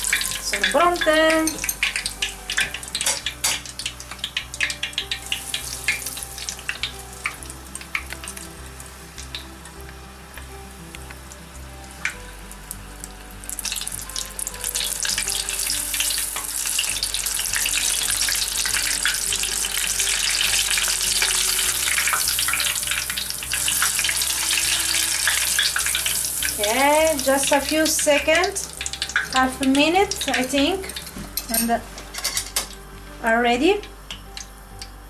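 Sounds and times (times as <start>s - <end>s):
food deep-frying in oil: 0.0s - 35.0s.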